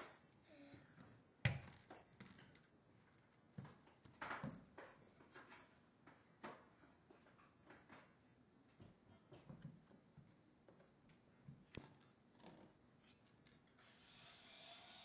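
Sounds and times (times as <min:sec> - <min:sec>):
faint knocks and clatters: 0:00.9 - 0:13.8.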